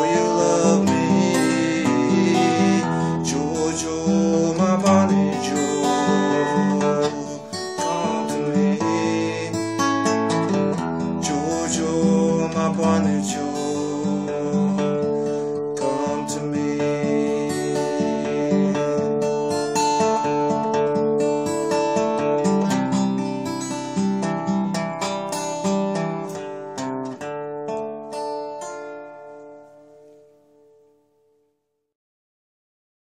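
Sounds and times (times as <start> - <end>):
acoustic guitar strumming chords: 0.0 - 31.1.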